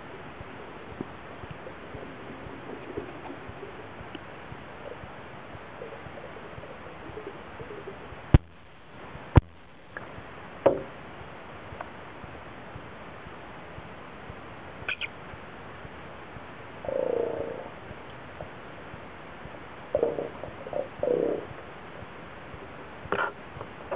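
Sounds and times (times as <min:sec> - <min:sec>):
sharp knocks underwater: 0:00.3 - 0:08.6, 0:09.4 - 0:16.0, 0:17.9 - 0:23.8.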